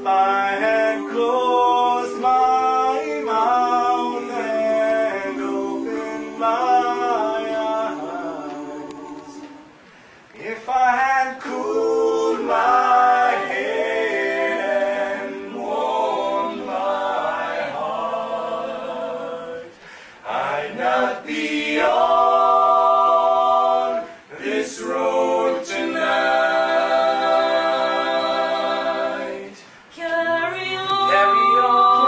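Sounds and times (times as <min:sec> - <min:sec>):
a cappella group singing harmony: 0:00.0 - 0:32.0.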